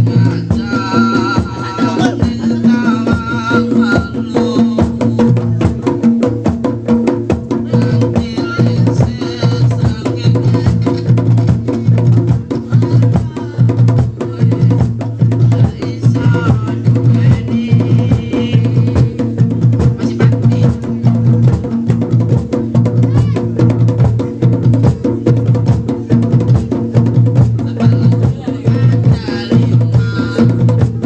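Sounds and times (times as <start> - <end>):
fast dense drumming: 0.0 - 31.0.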